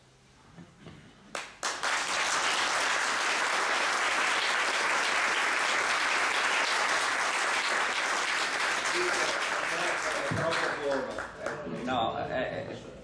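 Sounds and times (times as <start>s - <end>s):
audience applauding: 1.3s - 11.9s.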